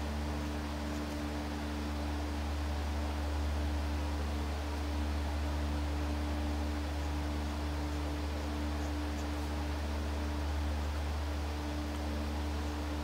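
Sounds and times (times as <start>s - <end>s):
background hiss: 0.0s - 13.0s
steady low hum: 0.0s - 13.0s.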